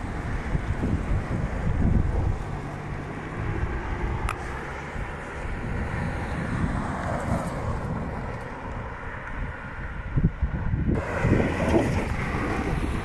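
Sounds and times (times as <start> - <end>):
car driving away: 0.0 - 9.7, 10.9 - 13.0
wind rumbling on microphone: 0.0 - 13.0.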